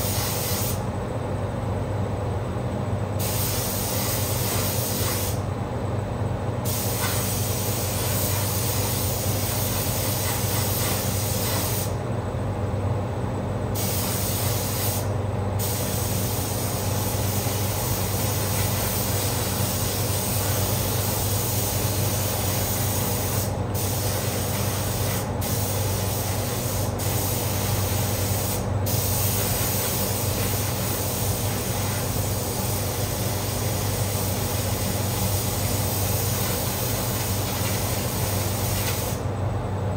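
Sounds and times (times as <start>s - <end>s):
paint spray gun hissing: 0.0s - 0.8s, 3.2s - 5.4s, 6.7s - 11.9s, 13.8s - 39.2s
exhaust fan hum: 0.0s - 39.9s.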